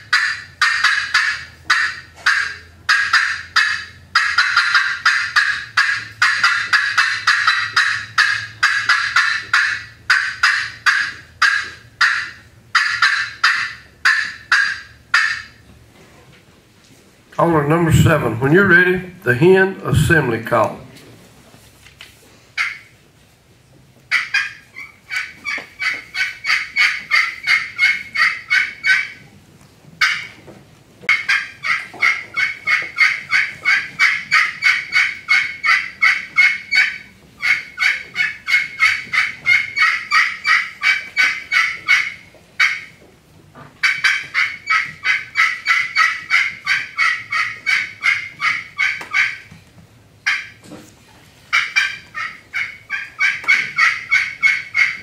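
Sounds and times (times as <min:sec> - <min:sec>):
turkey call yelps: 0:00.0 - 0:15.7, 0:22.6 - 0:22.9, 0:24.1 - 0:29.3, 0:30.0 - 0:30.4, 0:31.1 - 0:49.5, 0:50.2 - 0:50.6, 0:51.5 - 0:55.0.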